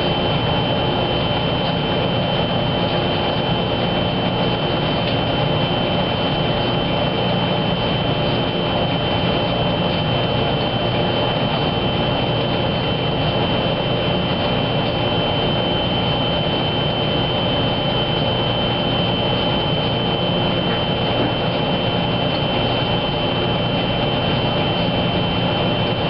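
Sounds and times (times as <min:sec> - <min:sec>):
washing machine spinning: 0:00.0 - 0:26.0.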